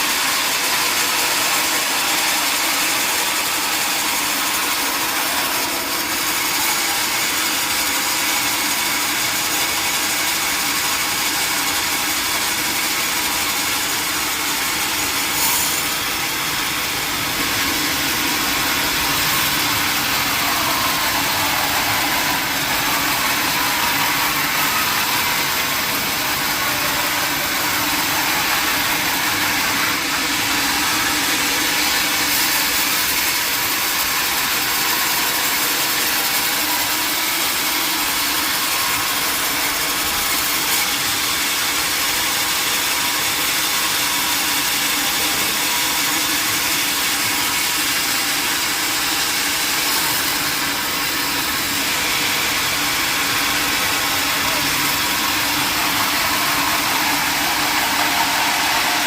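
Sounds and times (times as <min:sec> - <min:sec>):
sawmill machinery droning: 0:00.0 - 0:59.0.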